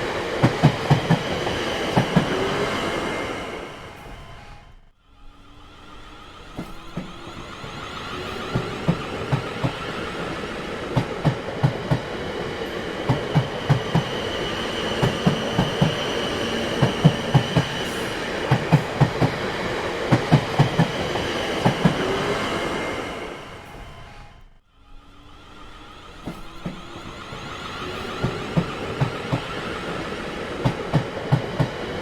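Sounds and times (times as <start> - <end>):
train wheels clickety-clack: 0.0 - 4.6, 6.4 - 24.5, 26.0 - 32.0
train rumble: 0.0 - 32.0.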